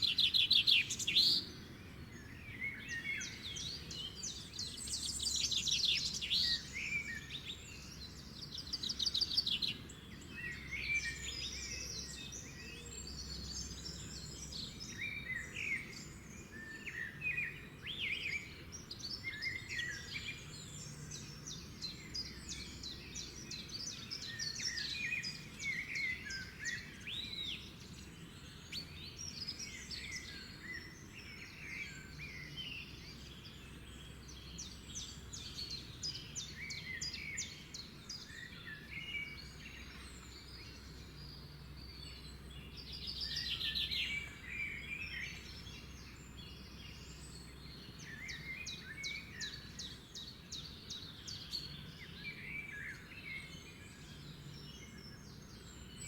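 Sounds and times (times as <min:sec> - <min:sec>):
faint outdoor background: 0:00.0 - 0:56.0.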